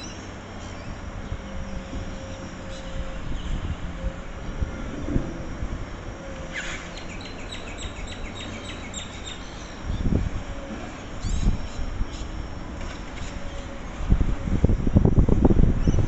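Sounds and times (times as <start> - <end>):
heavy machinery rumble: 0.0 - 16.0.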